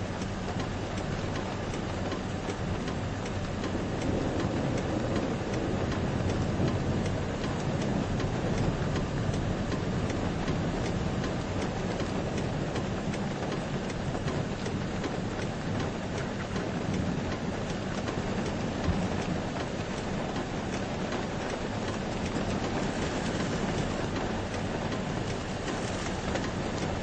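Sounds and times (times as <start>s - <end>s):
rain falling on river: 0.0s - 27.0s
light ticks: 0.1s - 27.0s.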